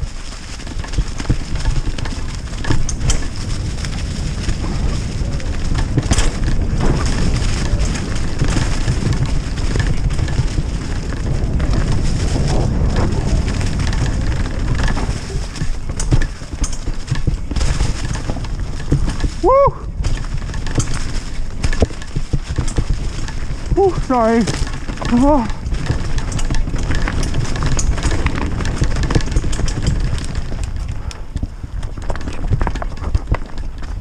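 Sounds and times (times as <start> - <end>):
bike clattering: 0.0 - 34.0
bike tyres crunching over leaves: 0.0 - 34.0
wind rumble on microphone: 0.0 - 34.0.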